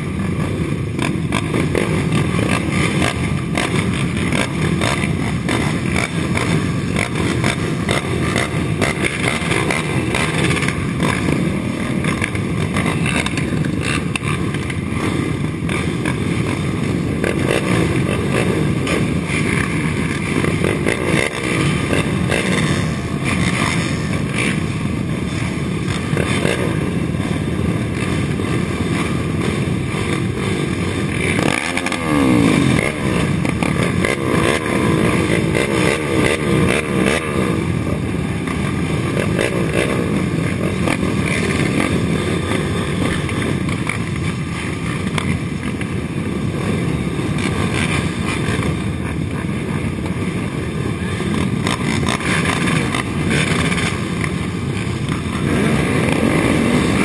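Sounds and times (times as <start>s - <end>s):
engine revving: 0.0s - 57.0s
quad engines idling and blipping: 0.0s - 57.0s.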